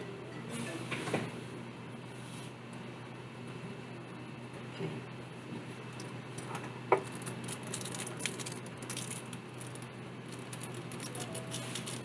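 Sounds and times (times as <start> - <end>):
steady low hum: 1.4 - 12.0.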